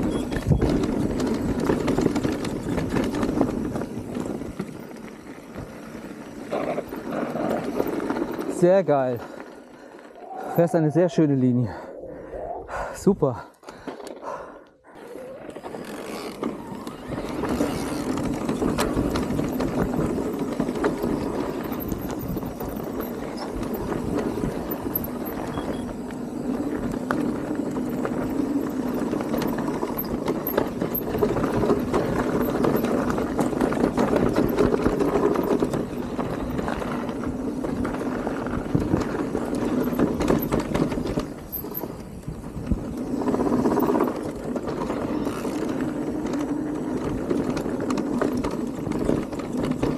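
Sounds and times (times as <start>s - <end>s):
bike clattering over bumpy trail: 0.0s - 11.6s, 13.4s - 49.9s.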